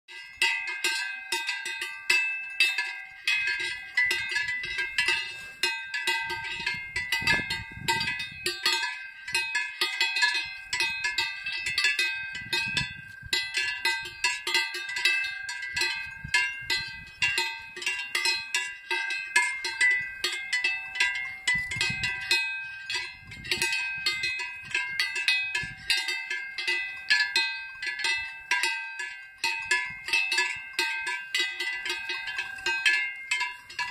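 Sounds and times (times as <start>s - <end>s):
cowbell clanking: 0.1s - 33.9s.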